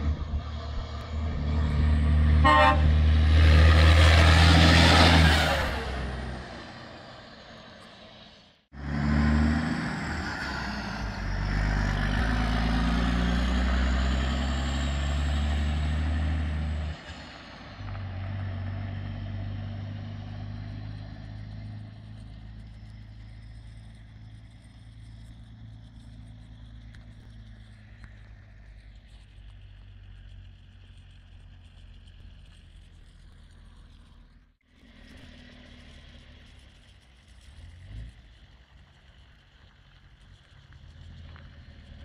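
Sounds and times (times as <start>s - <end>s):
truck diesel engine pulling away: 0.0s - 42.0s.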